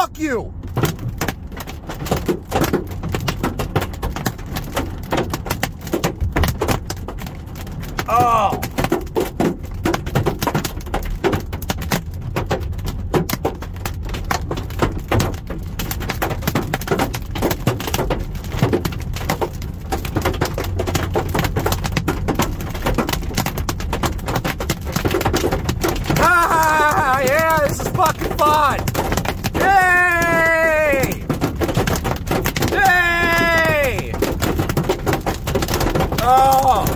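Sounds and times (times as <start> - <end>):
hailstones hammering car metal: 0.2 - 36.9.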